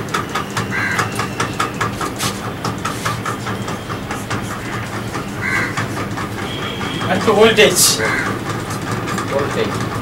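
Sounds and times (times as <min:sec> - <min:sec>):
rapid mechanical clicking: 0:00.0 - 0:10.0
steady low hum: 0:01.0 - 0:10.0.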